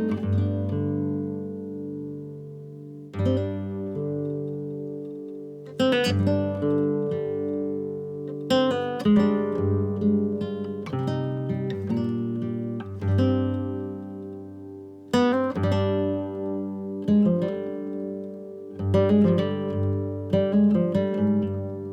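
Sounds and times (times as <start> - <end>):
acoustic guitar strummed chords: 0.0 - 21.9.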